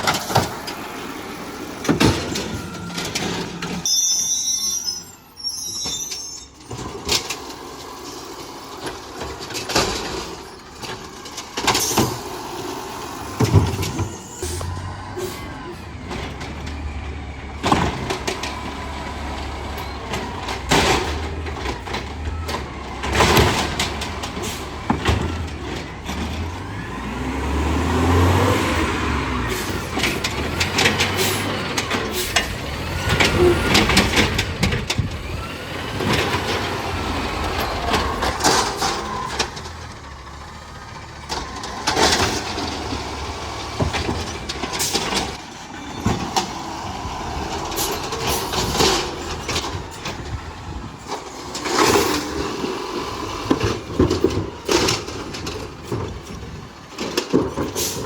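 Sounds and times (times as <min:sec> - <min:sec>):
diesel engine running and revving: 0:00.0 - 0:03.9, 0:06.6 - 0:58.0
garbage truck bangs and clanks: 0:00.0 - 0:58.0.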